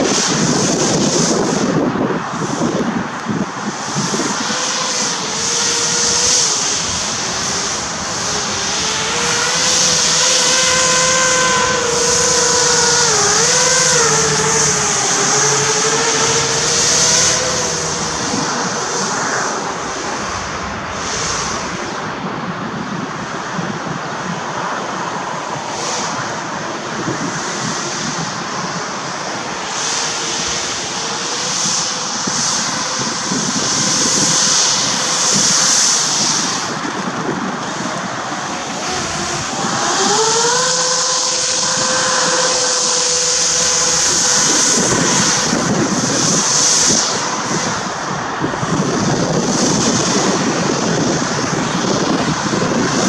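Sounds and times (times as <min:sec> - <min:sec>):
electric fans whining: 0:00.0 - 0:53.0
rushing hiss: 0:02.3 - 0:23.3, 0:27.3 - 0:53.0.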